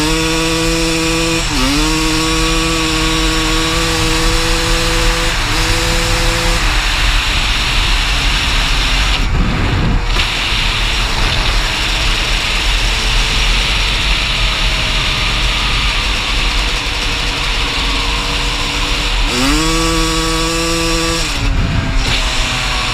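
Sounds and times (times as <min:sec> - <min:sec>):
dirt bike engine running: 0:00.0 - 0:22.9
rushing noise: 0:00.0 - 0:22.9.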